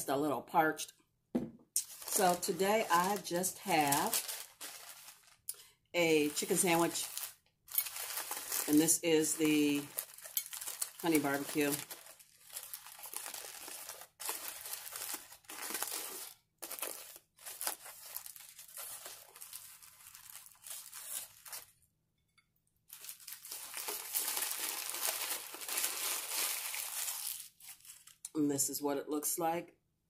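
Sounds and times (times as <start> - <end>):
foil wrapper crinkling: 1.8 - 21.8, 22.9 - 28.2.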